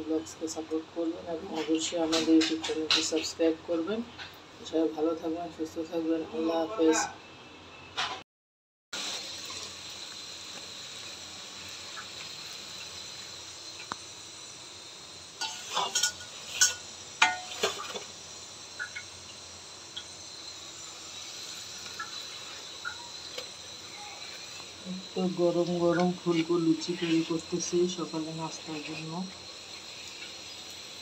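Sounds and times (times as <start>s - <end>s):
dough deep-frying in hot oil: 0.0s - 8.2s, 9.0s - 31.0s.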